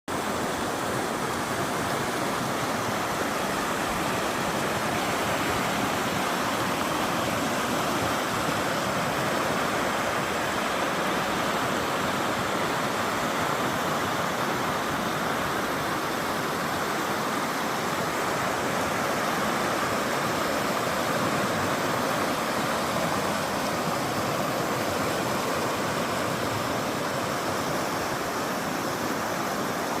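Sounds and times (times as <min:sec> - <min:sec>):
stream rushing over rocks: 0:00.1 - 0:30.0.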